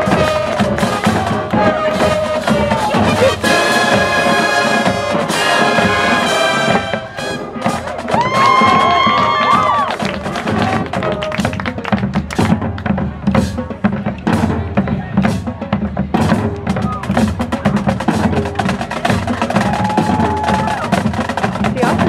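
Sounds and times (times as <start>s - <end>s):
drumline playing: 0.0s - 22.0s.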